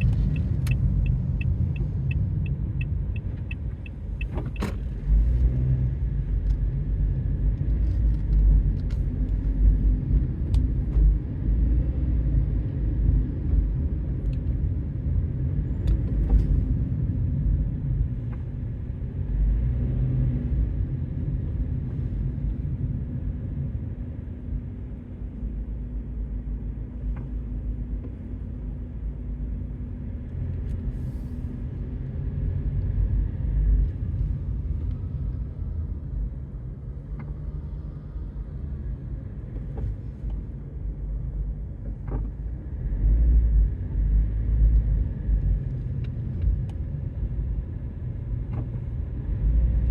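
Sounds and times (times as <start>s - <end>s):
car interior road rumble: 0.0s - 49.9s.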